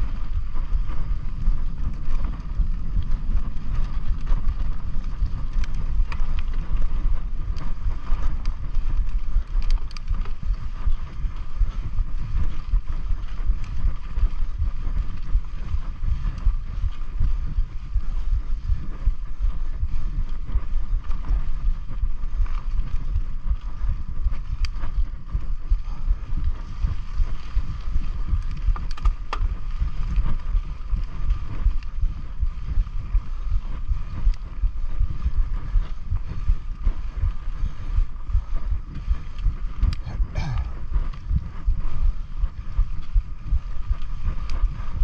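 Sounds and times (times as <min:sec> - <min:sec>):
bike tyres rumbling over ground: 0:00.0 - 0:45.0
steady mid-pitched hum: 0:00.0 - 0:45.0
wind buffeting on microphone: 0:00.0 - 0:45.0.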